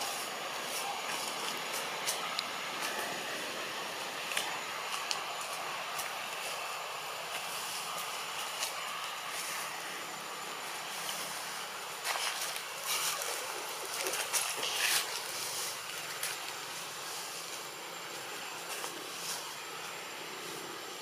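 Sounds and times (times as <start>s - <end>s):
leaves and twigs rustling: 0.0s - 21.0s
outdoor hiss: 0.0s - 21.0s.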